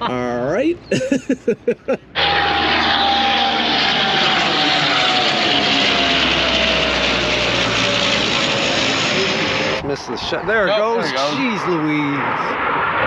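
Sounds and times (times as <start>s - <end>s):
aircraft flying past: 2.1s - 13.0s.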